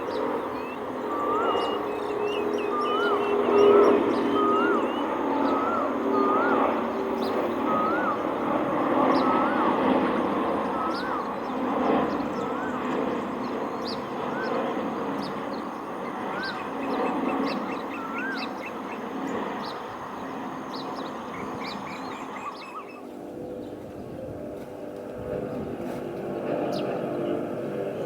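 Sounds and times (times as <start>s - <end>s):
birds calling: 0.0s - 24.8s
jet aircraft rumble: 0.0s - 28.0s.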